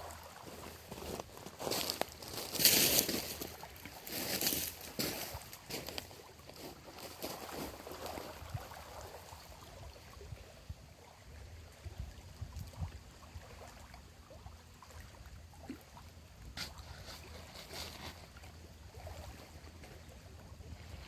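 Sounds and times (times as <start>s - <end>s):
small waves lapping: 0.0s - 21.0s.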